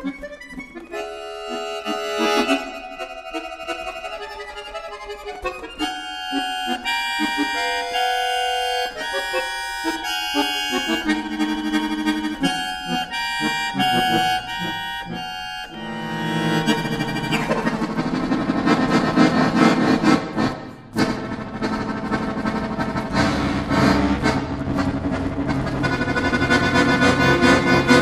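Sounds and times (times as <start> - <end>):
accordion playing classical music: 0.0 - 28.0.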